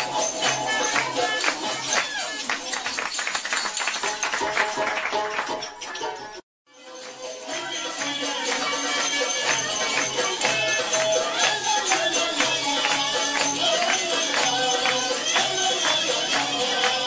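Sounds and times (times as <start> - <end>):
belly-dance music with percussion: 0.0 - 17.0.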